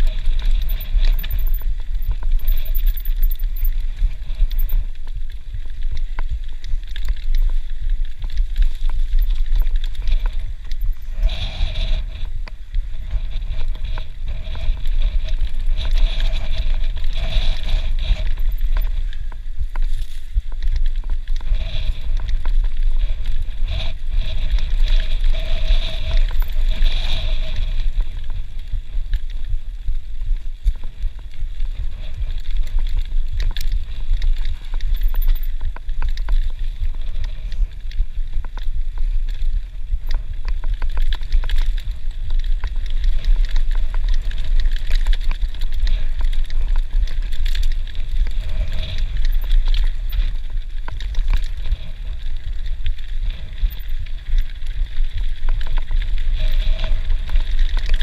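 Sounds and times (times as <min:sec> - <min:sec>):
bike rattling over bumps: 0:00.0 - 0:58.0
wind buffeting microphone: 0:00.0 - 0:58.0.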